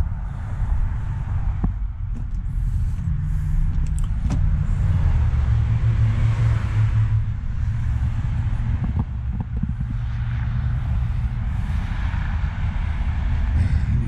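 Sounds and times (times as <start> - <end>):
road traffic rumble: 0.0 - 14.0
vehicle passing: 0.0 - 14.0.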